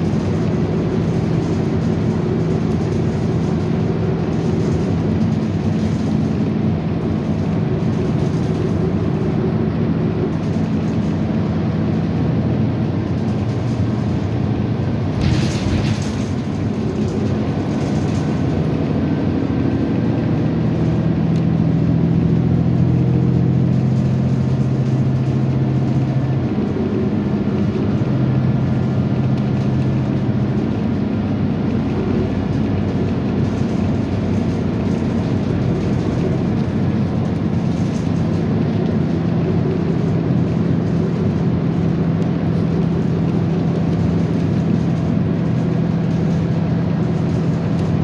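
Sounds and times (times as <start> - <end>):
train rumble from inside cabin: 0.0 - 48.0.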